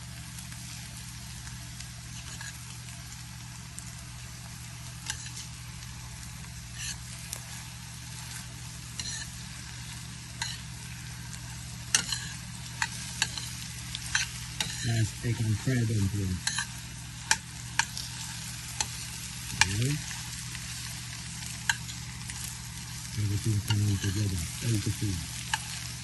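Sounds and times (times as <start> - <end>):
eggs sizzling in a frying pan: 0.0 - 26.0.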